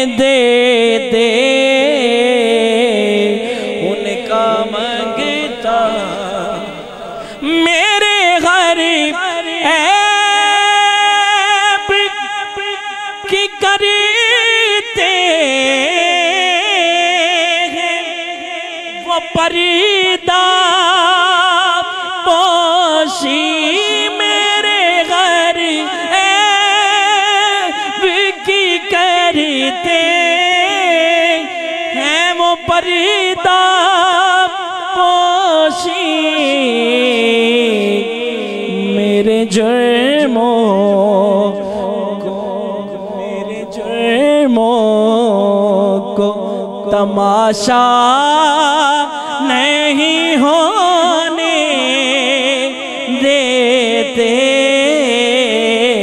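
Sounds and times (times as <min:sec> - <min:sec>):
man singing into a microphone: 0:00.0 - 0:56.0.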